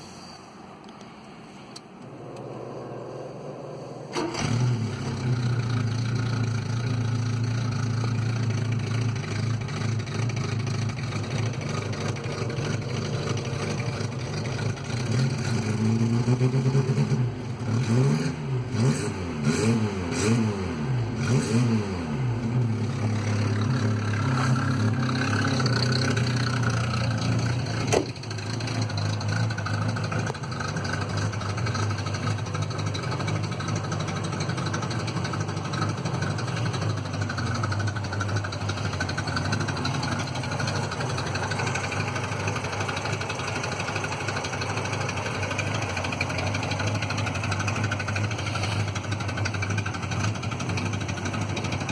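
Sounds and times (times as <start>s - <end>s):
car engine revving: 1.9s - 51.9s.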